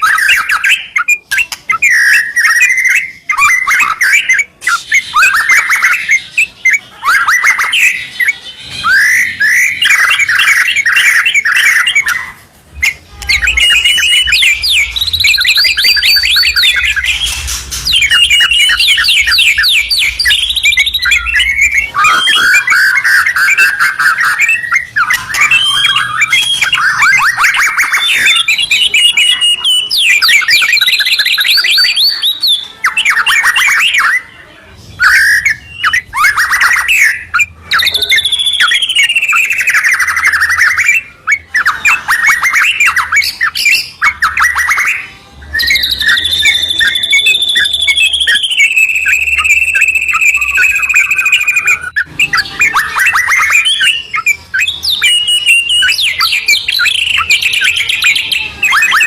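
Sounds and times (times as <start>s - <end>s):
bird whistled phrases: 0.0s - 34.4s, 35.0s - 59.0s.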